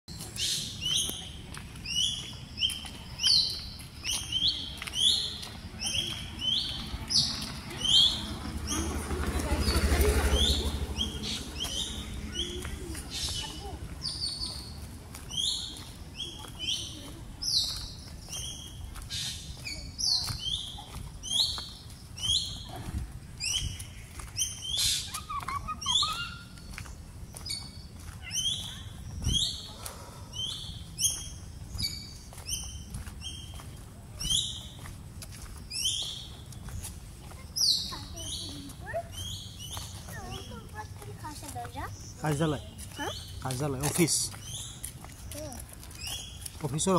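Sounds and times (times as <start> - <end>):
bird calling: 0.1 - 34.8, 37.5 - 46.9.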